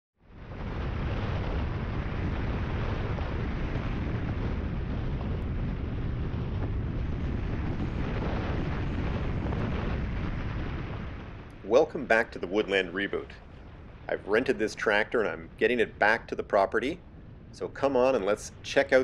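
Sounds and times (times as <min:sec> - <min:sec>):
wind on microphone: 0:00.2 - 0:19.0.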